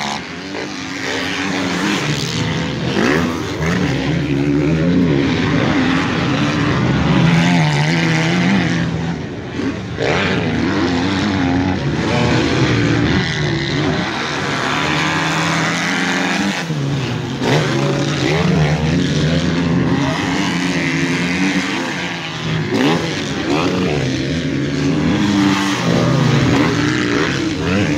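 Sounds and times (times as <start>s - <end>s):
motocross bikes revving: 0.0s - 27.9s.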